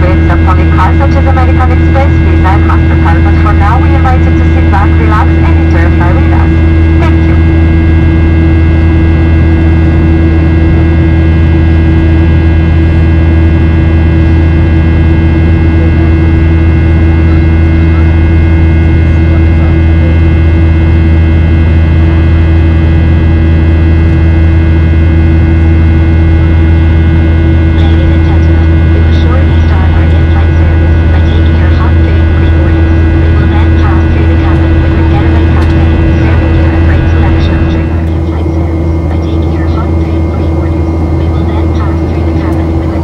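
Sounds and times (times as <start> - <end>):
airplane cabin engine drone: 0.0 - 43.0.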